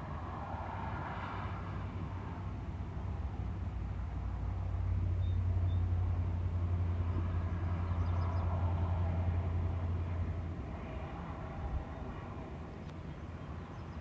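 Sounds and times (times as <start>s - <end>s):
freeway traffic rumble: 0.0s - 14.0s.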